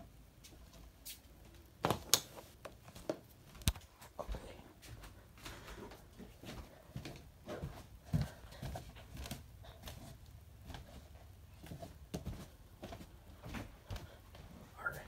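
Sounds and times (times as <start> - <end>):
soft footsteps walking: 0.1 - 15.0.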